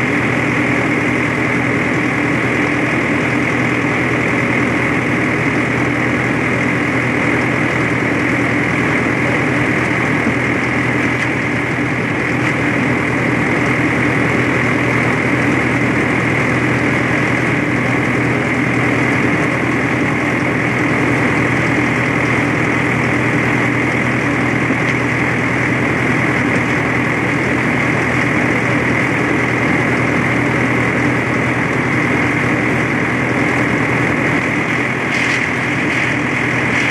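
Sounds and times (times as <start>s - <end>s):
tractor engine droning: 0.0s - 36.9s.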